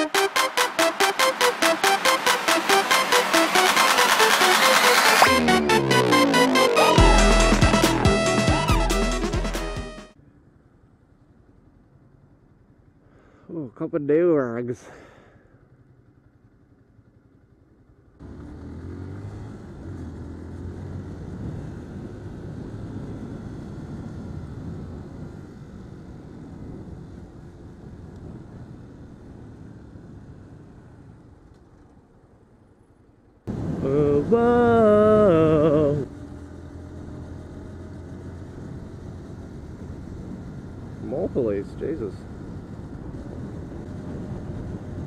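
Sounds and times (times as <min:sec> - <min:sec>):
tyres and wind drone: 0:00.0 - 0:10.2, 0:18.2 - 0:45.0
motorcycle engine: 0:00.0 - 0:13.4, 0:14.8 - 0:45.0.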